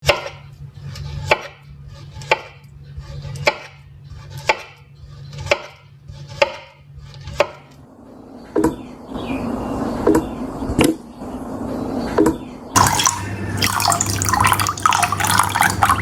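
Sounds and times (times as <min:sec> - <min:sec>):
steady low hum: 0:00.5 - 0:16.0.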